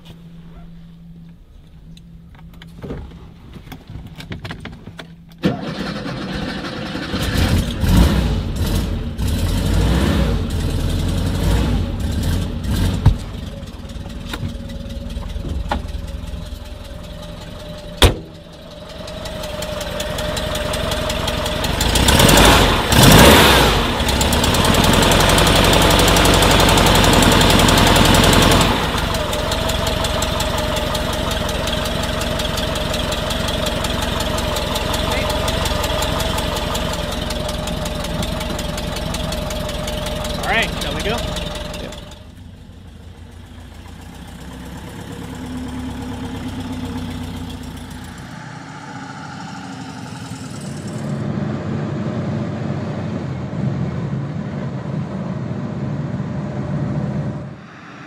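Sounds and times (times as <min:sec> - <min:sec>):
car engine starting and revving: 0:05.4 - 0:58.0.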